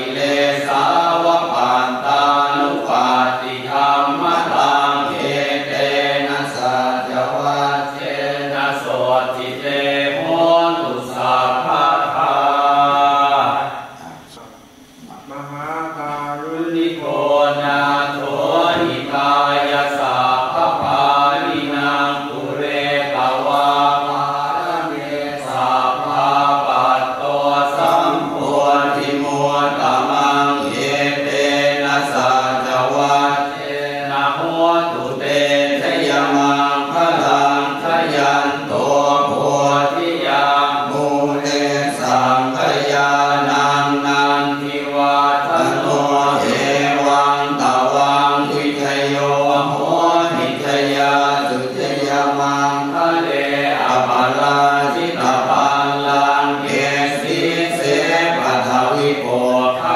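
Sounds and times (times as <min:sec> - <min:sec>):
monotone chanting: 0:00.0 - 0:59.9.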